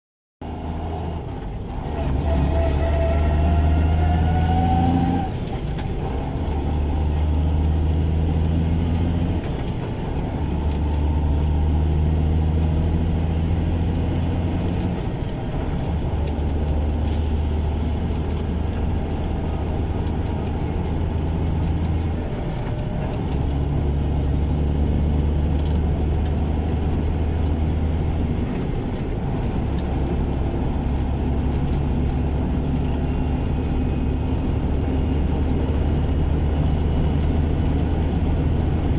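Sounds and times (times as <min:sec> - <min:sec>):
truck diesel engine droning: 0:00.4 - 0:38.9.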